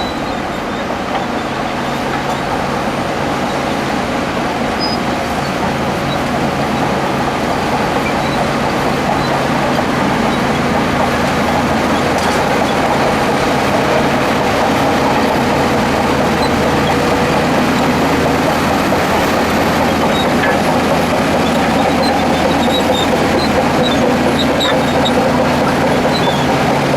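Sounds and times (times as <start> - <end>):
bulldozer diesel engine drone: 0.0 - 26.9.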